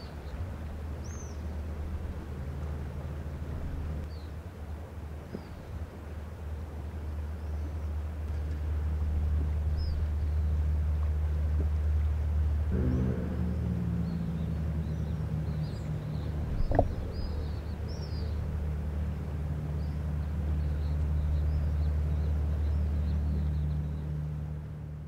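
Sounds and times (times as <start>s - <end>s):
boat engine drone: 0.0s - 25.0s.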